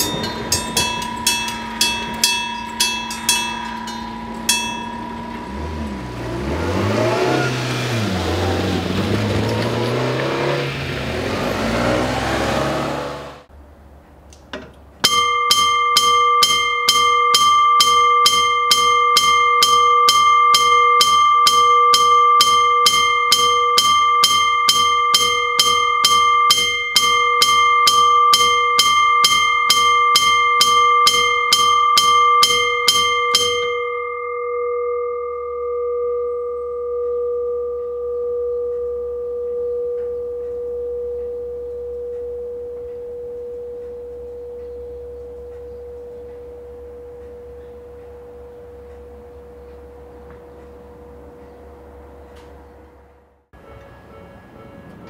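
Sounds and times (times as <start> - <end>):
hammer striking metal bell: 0.0 - 8.0, 15.0 - 51.7
railway crossing bell ringing: 0.0 - 12.9, 15.0 - 55.0.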